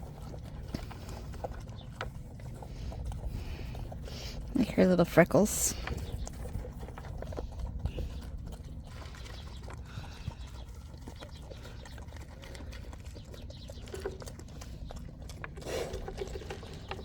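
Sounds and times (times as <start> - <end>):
pig chewing and mouth smacking: 0.0 - 17.0.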